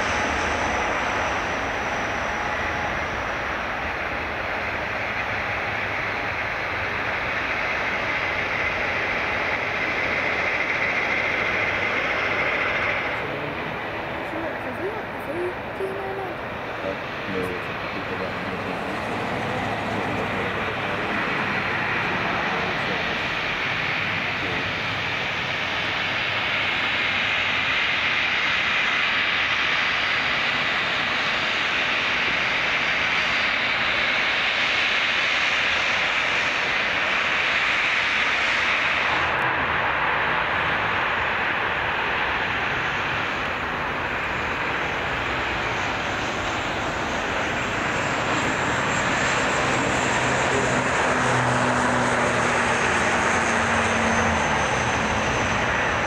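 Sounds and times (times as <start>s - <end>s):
rising engine whine: 0.0s - 56.0s
turboprop engines running: 0.0s - 56.0s.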